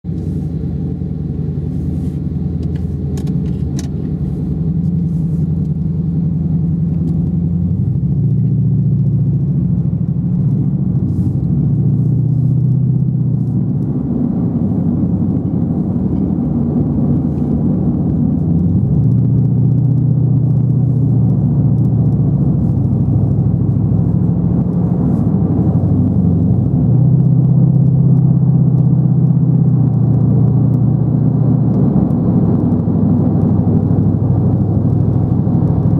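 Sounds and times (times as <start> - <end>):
car engine droning low: 0.0 - 35.9.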